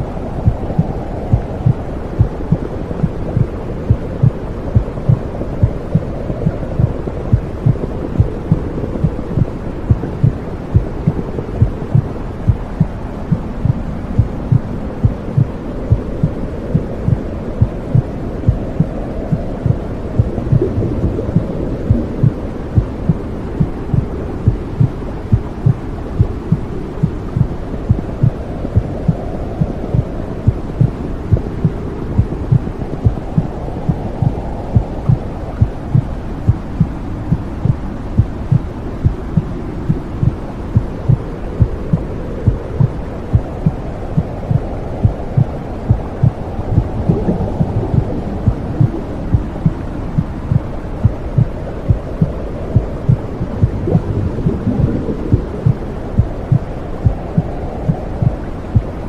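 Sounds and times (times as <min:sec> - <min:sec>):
low whooshing hum: 0:00.0 - 0:59.0
heartbeat thumping: 0:00.4 - 0:59.0.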